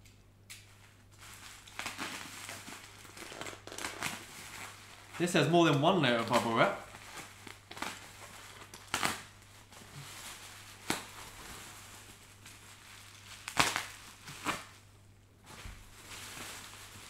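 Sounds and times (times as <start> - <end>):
bubble wrap sharp cracks: 0.0 - 17.0
bubble wrap crinkling: 0.6 - 17.0.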